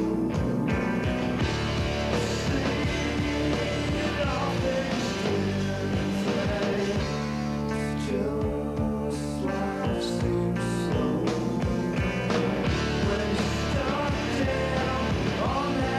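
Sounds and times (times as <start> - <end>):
person singing: 0.0 - 1.0, 2.1 - 12.0, 12.7 - 15.9
grunge rock band: 0.0 - 15.9.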